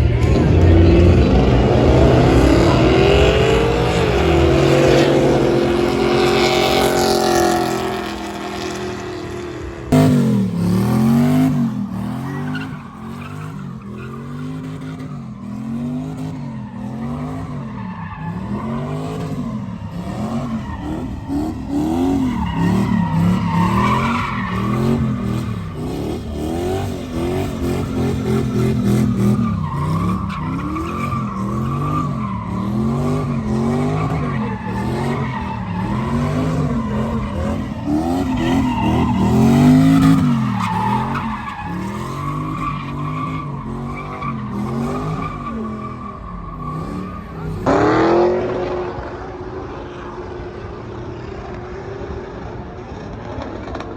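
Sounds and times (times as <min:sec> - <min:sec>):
truck engine revving: 0:00.0 - 0:17.6, 0:18.2 - 0:49.0.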